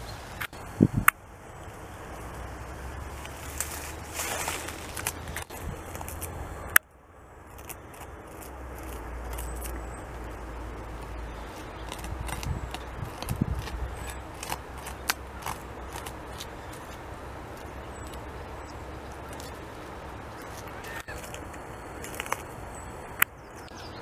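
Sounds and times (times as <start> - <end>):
beaver gnawing bark: 1.9 - 23.7.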